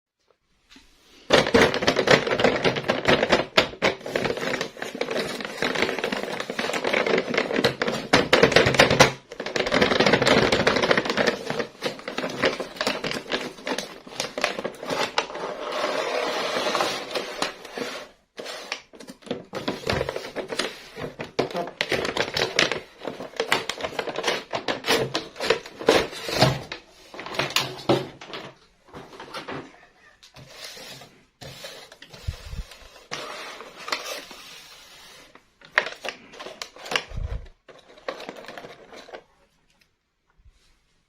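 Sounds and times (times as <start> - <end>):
packaging crinkling: 1.3 - 28.4, 30.4 - 39.8.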